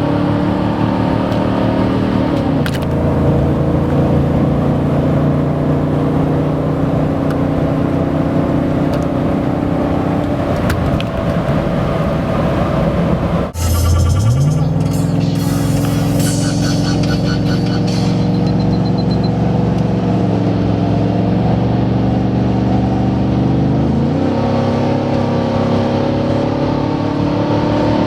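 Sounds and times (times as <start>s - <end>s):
loud truck exhaust: 0.0s - 28.0s.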